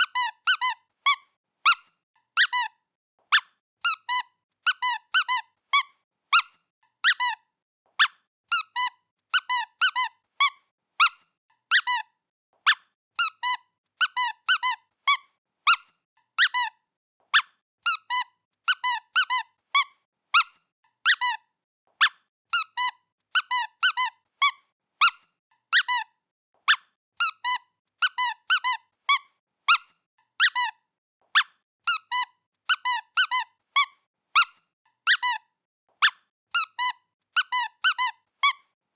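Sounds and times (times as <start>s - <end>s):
squeaky cat toy squeaking: 0.0s - 38.7s.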